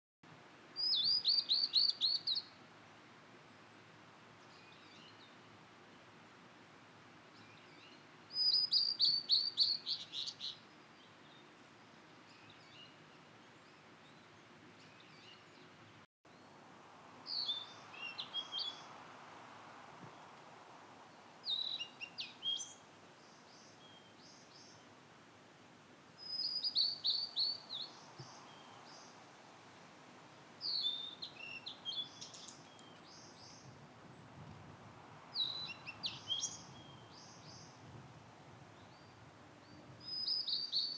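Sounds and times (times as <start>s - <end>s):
faint background noise: 0.2s - 40.9s.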